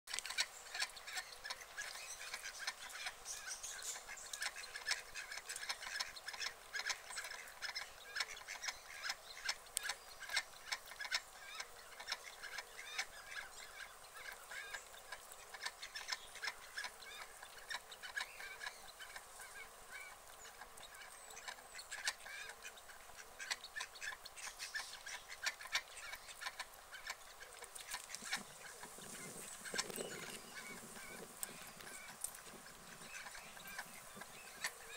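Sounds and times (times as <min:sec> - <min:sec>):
ducks calling: 0:00.1 - 0:34.9.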